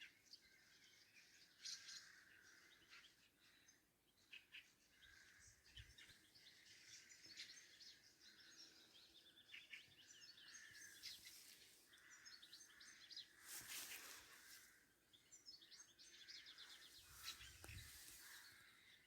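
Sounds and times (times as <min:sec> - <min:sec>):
birds chirping and trilling: 0:00.0 - 0:19.0.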